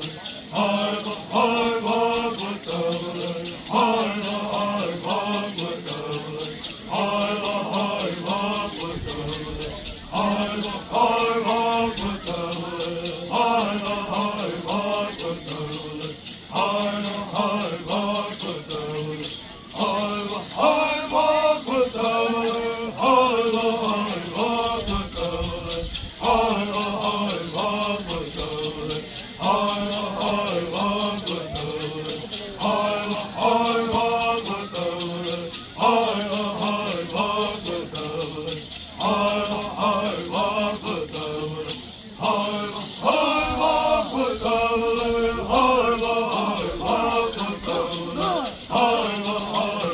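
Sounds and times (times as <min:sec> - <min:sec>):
gourd rattles shaking: 0:00.0 - 0:49.9
singers chanting in unison: 0:00.0 - 0:49.9.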